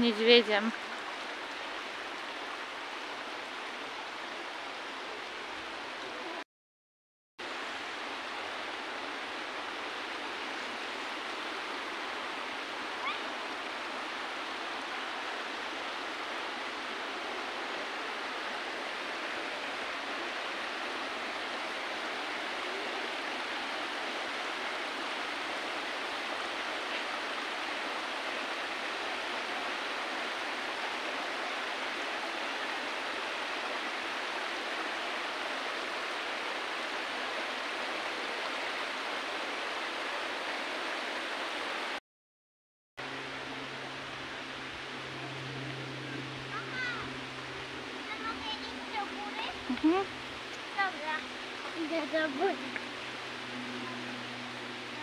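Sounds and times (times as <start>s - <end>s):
running water rushing: 0.0s - 6.4s, 7.4s - 42.0s, 43.0s - 55.0s.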